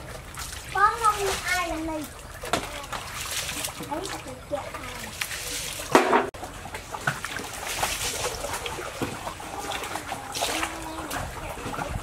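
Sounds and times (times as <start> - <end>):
hands washing rice in water: 0.0 - 12.0
water sloshing and splashing: 0.0 - 12.0.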